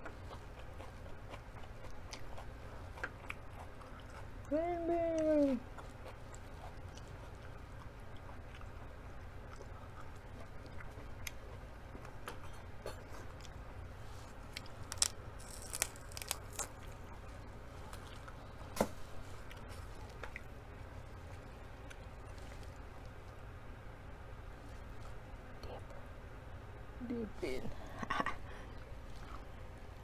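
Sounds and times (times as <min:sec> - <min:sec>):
chewing and crunching vegetables: 0:00.0 - 0:23.4, 0:28.2 - 0:30.0.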